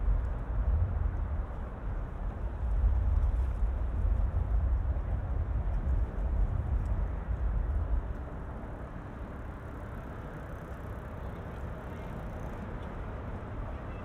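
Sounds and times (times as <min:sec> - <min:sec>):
city road traffic hum: 0:00.0 - 0:14.0
wind rumbling on microphone: 0:00.0 - 0:14.0.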